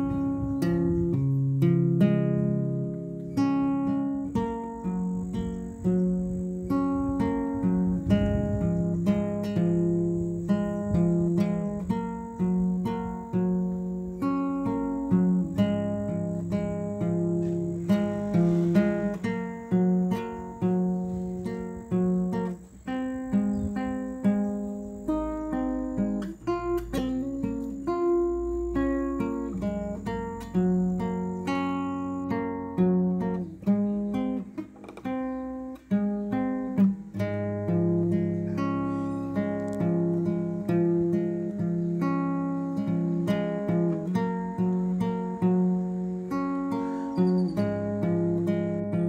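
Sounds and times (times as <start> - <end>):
acoustic guitar plucking: 0.0 - 49.0.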